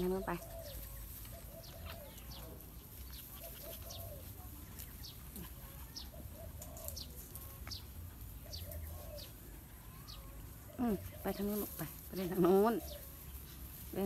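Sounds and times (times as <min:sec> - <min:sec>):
soft low bird calls: 0:00.0 - 0:13.6.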